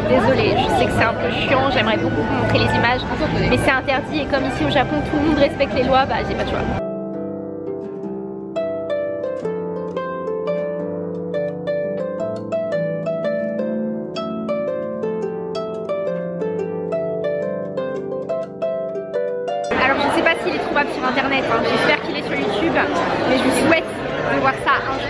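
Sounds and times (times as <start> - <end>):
harp melody: 0.0 - 25.0.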